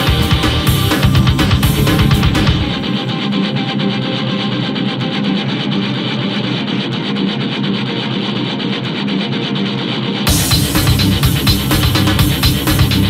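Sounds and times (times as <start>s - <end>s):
guitar-led rock music: 0.0s - 13.0s.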